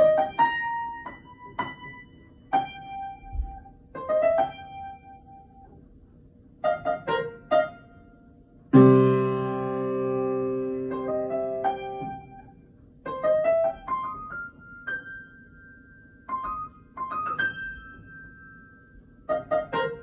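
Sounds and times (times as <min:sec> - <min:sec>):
upright piano played slowly: 0:00.0 - 0:05.8, 0:06.5 - 0:20.0.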